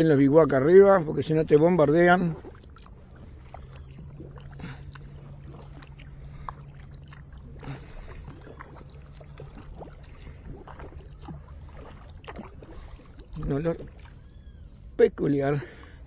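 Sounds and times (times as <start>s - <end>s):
low steady hum: 0.0s - 16.0s
water lapping at hull: 0.0s - 16.0s
paddle strokes in water: 0.2s - 14.8s
water dripping off paddle: 1.6s - 14.6s.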